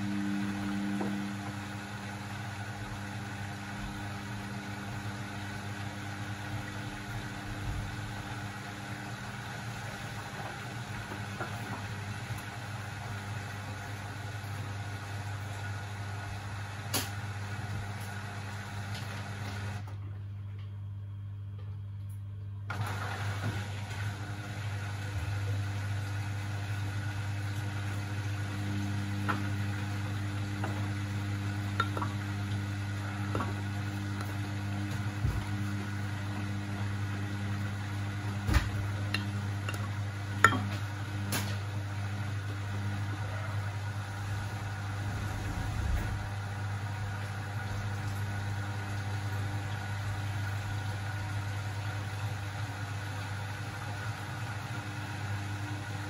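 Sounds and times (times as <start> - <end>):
washing machine hum and swishing: 0.0 - 56.0.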